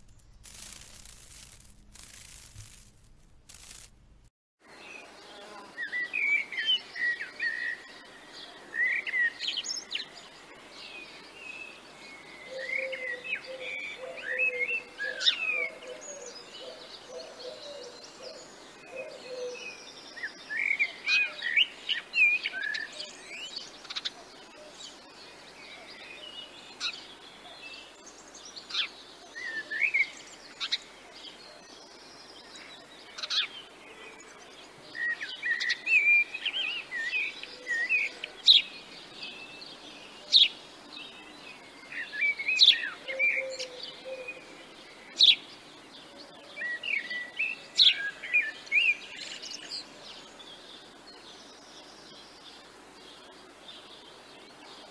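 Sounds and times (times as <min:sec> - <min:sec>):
small songbirds chirping: 0:04.6 - 0:54.9.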